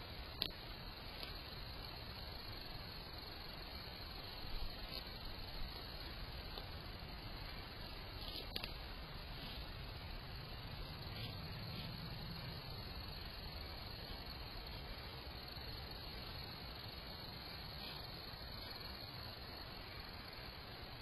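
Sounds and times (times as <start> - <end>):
even hiss: 0.0 - 21.0.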